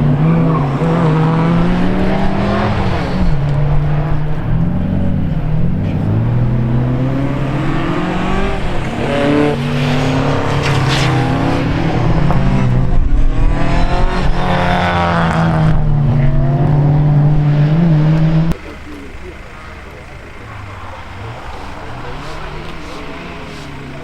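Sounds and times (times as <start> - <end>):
rally car engine revving: 0.0 - 24.0
tyre noise: 0.0 - 24.0.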